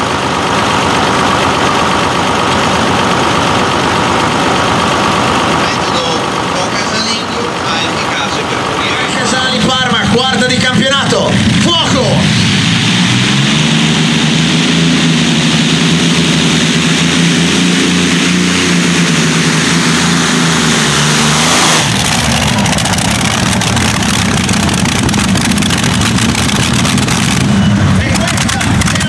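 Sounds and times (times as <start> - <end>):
tractor engine running under load: 0.0 - 29.0.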